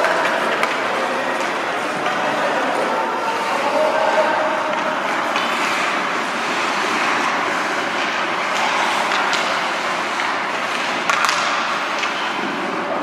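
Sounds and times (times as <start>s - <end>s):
ice rink crowd noise: 0.0s - 13.0s.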